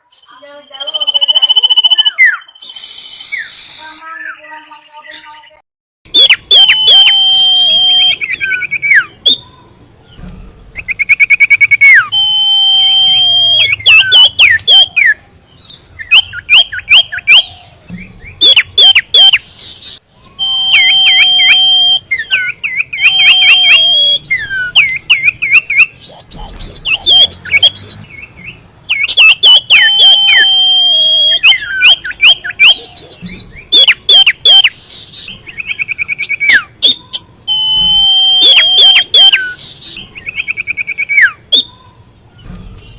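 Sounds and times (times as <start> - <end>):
bird whistling song: 0.2 - 4.5, 6.1 - 9.8, 10.7 - 42.0.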